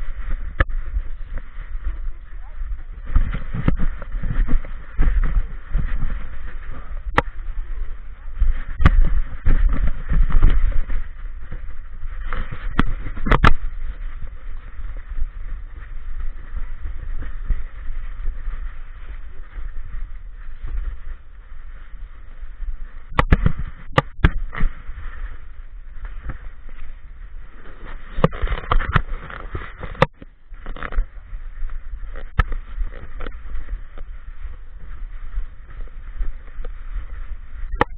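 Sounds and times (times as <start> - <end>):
camera rubbing and knocking: 0.0 - 37.9
low rumble and rustle: 0.0 - 37.9.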